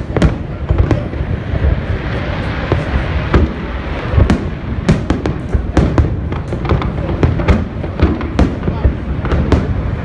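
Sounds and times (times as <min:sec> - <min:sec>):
continuous rumbling haze: 0:00.0 - 0:10.0
firework shells bursting: 0:00.0 - 0:10.0.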